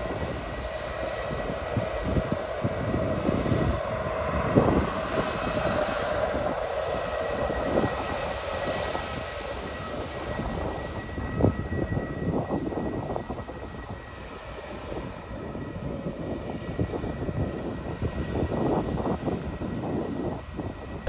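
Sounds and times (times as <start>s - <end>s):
jet engines whining: 0.0s - 21.0s
wind rumbling on microphone: 0.0s - 21.0s.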